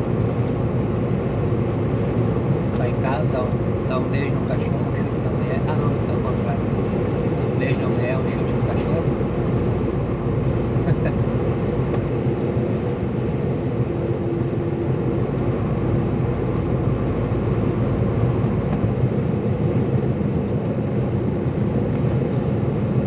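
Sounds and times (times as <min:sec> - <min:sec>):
truck diesel engine drone: 0:00.0 - 0:23.0.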